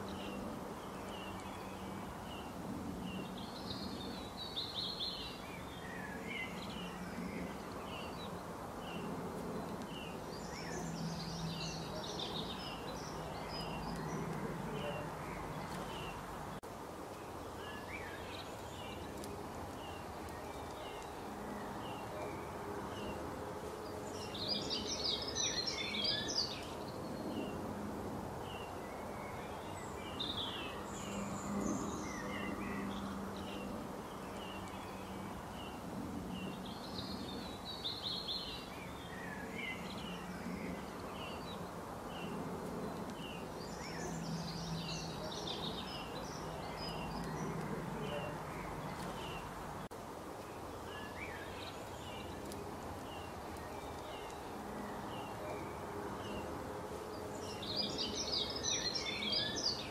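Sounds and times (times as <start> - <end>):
birds twittering song: 0.0 - 59.9
outdoor background noise: 0.0 - 59.9.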